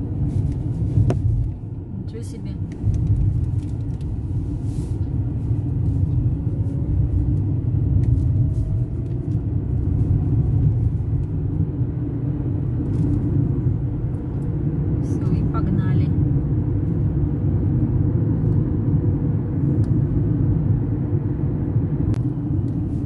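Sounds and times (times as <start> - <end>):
road and tyre rumble inside car: 0.0 - 23.0.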